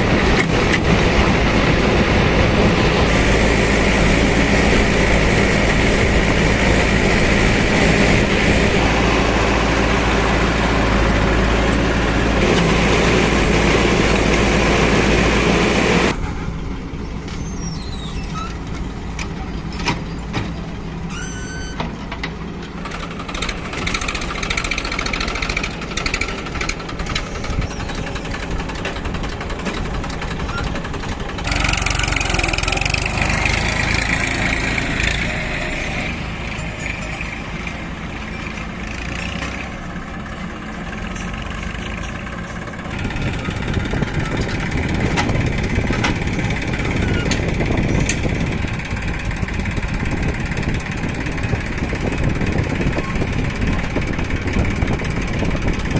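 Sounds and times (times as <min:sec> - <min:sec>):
heavy machinery diesel engine: 0:00.0 - 0:55.9.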